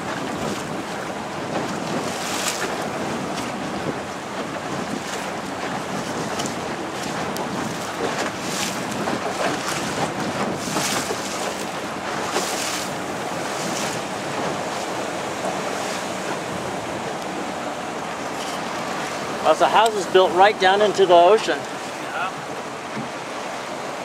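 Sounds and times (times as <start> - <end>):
motor boat engine droning: 0.0 - 24.0
waves splashing on rocks: 0.0 - 24.0
wind buffeting microphone: 0.0 - 24.0.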